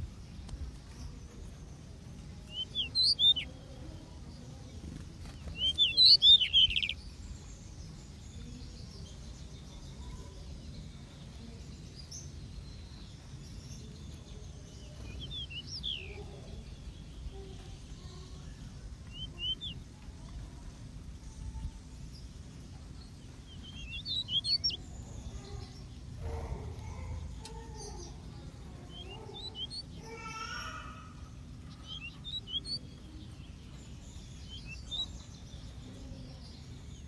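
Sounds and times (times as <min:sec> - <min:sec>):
steady low rumble: 0:00.0 - 0:30.0
birds chirping: 0:00.0 - 0:37.0.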